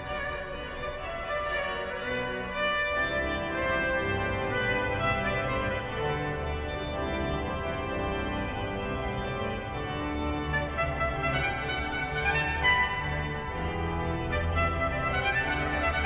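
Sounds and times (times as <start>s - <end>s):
pipe organ playing chords: 0.0s - 16.0s.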